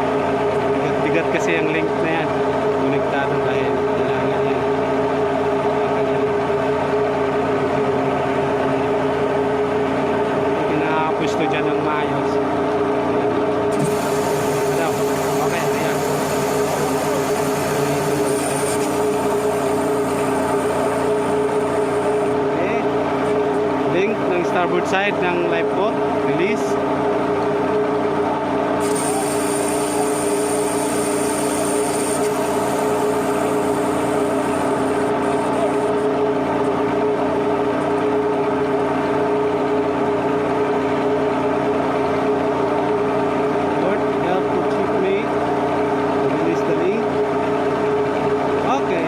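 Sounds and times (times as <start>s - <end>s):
ship machinery drone: 0.0s - 49.0s.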